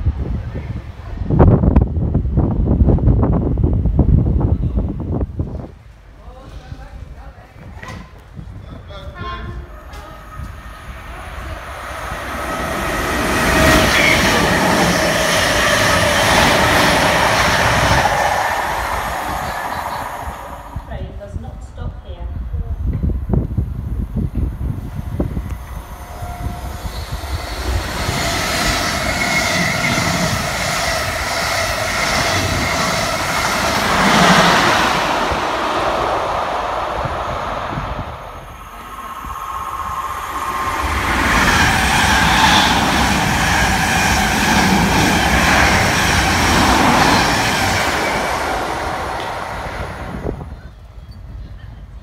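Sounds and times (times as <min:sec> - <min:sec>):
train wheels on rails: 0:07.4 - 0:20.9, 0:22.9 - 0:52.0.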